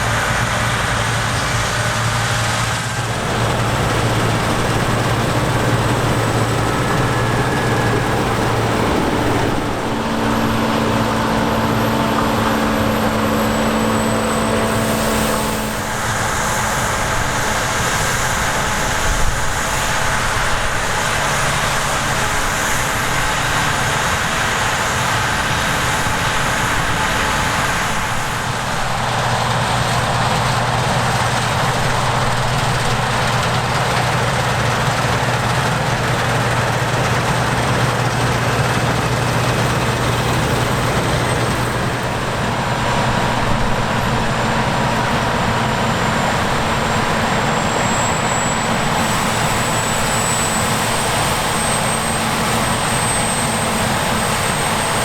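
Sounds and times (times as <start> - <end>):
deep engine hum: 0.0 - 55.0
heavy machinery engines running: 0.0 - 55.0.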